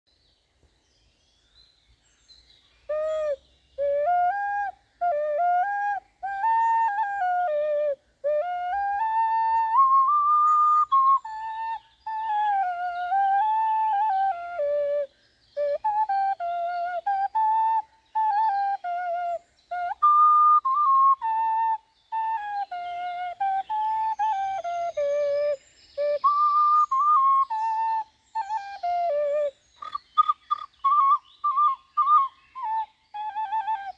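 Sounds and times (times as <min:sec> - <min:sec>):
ocarina playing slow melody: 0:02.9 - 0:33.9.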